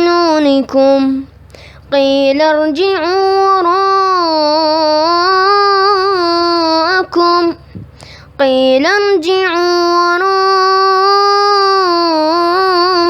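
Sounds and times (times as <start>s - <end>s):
boy chanting recitation: 0.0s - 13.0s.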